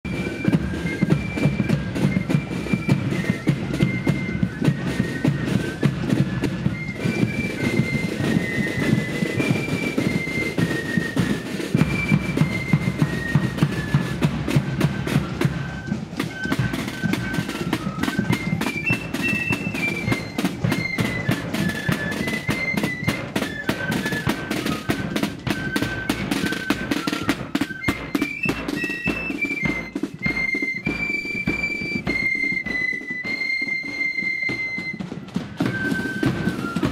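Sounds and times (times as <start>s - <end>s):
flute melody: 0.1s - 36.9s
snare drums rattling: 0.1s - 36.9s.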